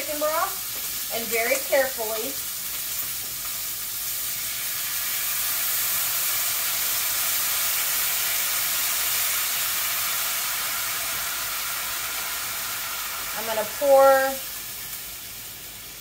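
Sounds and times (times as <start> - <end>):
stock hissing in hot pan: 0.0 - 16.0.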